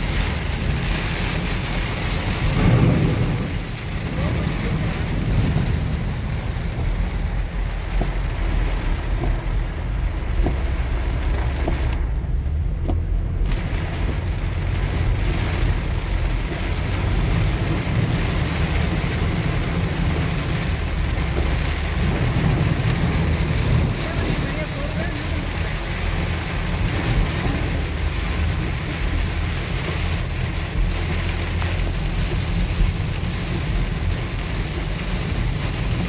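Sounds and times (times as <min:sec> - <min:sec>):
heavy rain drumming on windshield: 0:00.0 - 0:36.0
van rumbling on wet road: 0:00.0 - 0:36.0.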